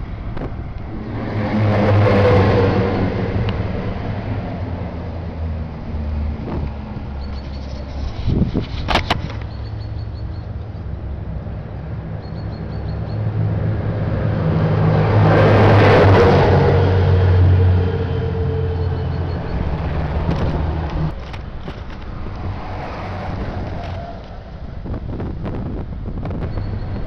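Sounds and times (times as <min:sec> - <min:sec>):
heavy vehicle engine passing by: 0:00.0 - 0:25.6.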